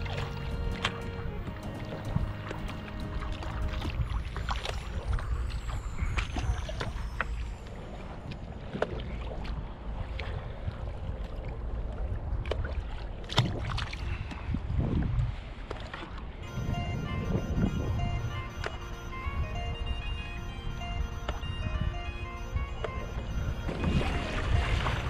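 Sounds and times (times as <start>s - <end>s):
water sloshing around kayak: 0.0s - 25.0s
wind buffeting microphone: 0.0s - 25.0s.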